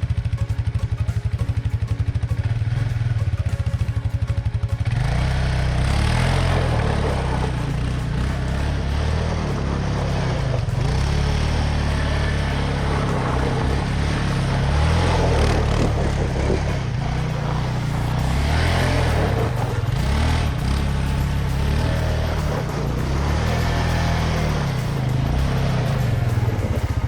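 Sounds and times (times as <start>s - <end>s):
small engine running steadily: 0.0s - 27.0s.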